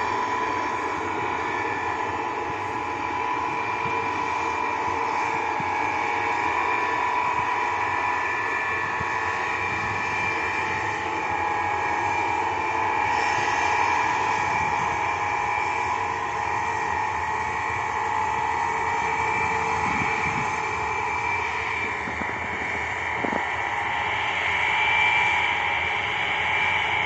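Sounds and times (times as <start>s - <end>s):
jet engines with screaming whine: 0.0s - 27.0s.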